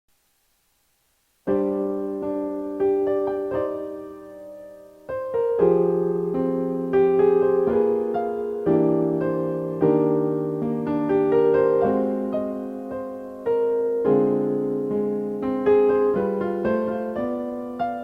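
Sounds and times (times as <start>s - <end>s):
slow piano melody: 1.4s - 18.0s.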